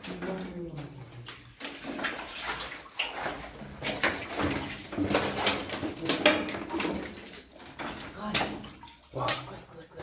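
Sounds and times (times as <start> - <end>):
footsteps sloshing through water: 0.0 - 10.0.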